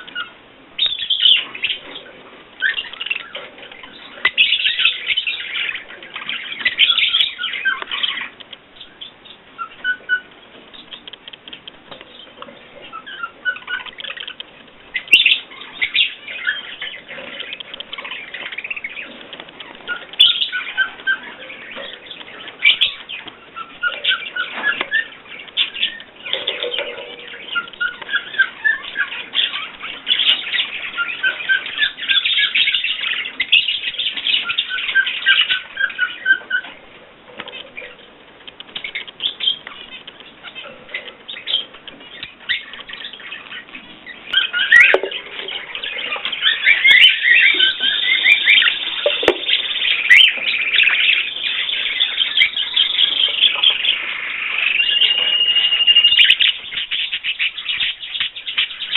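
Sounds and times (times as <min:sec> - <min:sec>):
cage birds chirping: 0:00.0 - 0:58.9.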